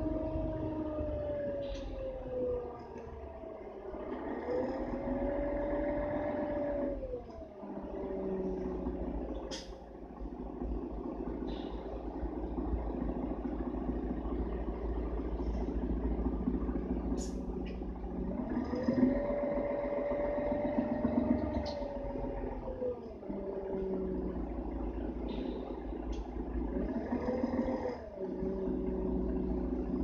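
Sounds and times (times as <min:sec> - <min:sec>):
bus engine rumble: 0:00.0 - 0:30.0
drivetrain whine: 0:00.0 - 0:30.0.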